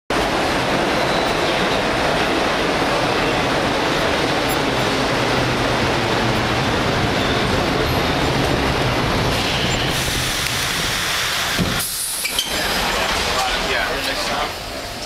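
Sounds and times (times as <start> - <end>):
subway train rumble: 0.1 - 15.0.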